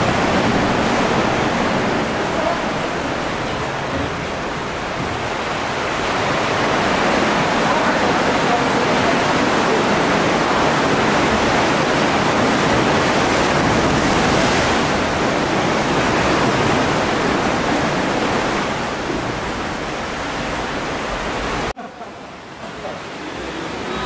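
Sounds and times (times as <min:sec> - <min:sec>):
ocean surf rushing: 0:00.0 - 0:24.0.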